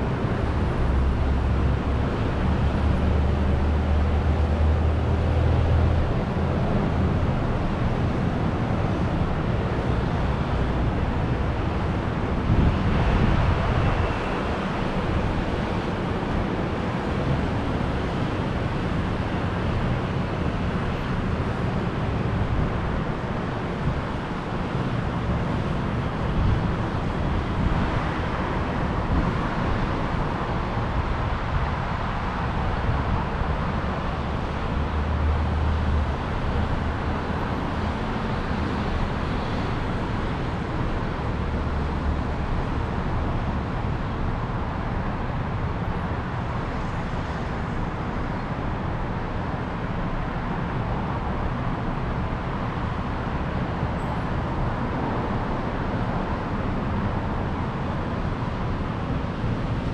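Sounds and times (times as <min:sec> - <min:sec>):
heavy vehicles rumbling past: 0:00.0 - 0:59.9
traffic road rumble: 0:00.0 - 0:59.9.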